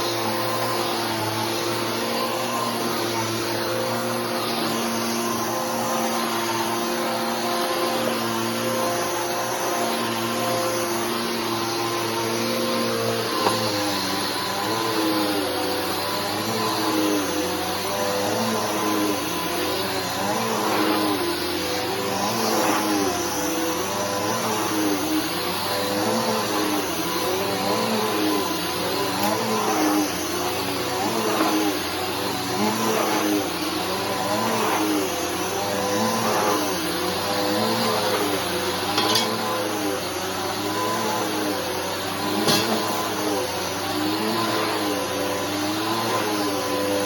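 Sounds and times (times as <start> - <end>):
vacuum cleaner running: 0.0 - 47.0.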